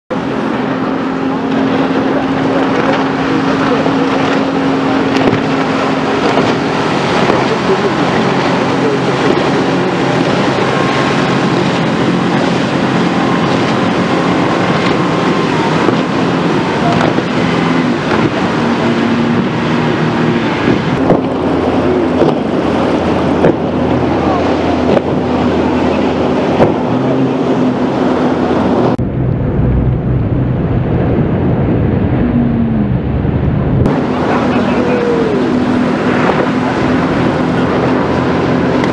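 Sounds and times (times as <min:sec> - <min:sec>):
hull and spray rushing over water: 0:00.1 - 0:38.9
outboard engine droning: 0:00.1 - 0:38.9.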